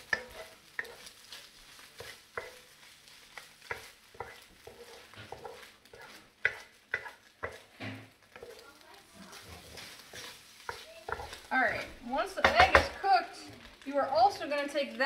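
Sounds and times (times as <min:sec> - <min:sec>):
utensil scraping and knocking pan: 0:00.0 - 0:13.1
eggs sizzling: 0:00.0 - 0:15.0.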